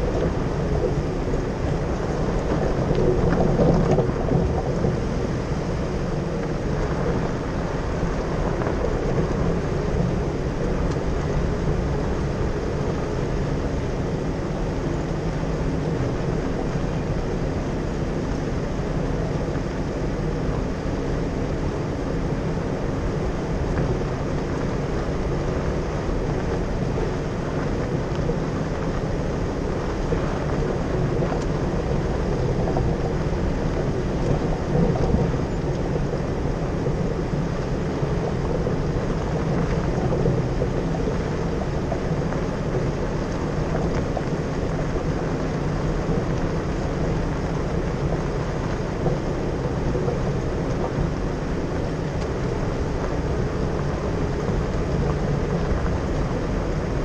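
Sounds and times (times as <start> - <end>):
tyres rumbling on gravel: 0.0 - 13.8, 22.4 - 57.0
car engine drone: 0.0 - 57.0.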